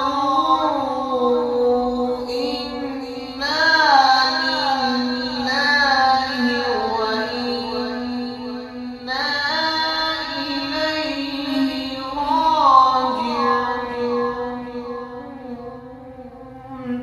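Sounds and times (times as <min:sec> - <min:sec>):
person chanting melismatic notes: 0:00.0 - 0:17.0.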